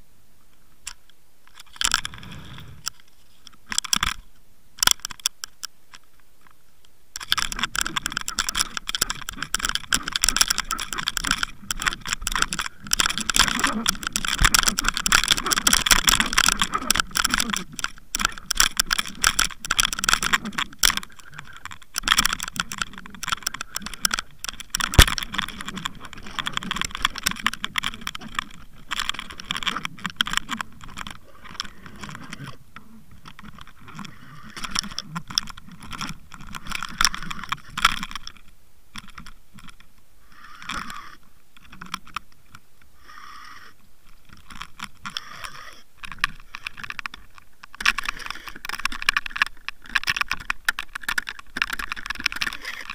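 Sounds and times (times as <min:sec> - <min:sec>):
fishing tackle rattling underwater: 0:01.5 - 0:03.0, 0:07.2 - 0:39.8, 0:43.2 - 0:52.9.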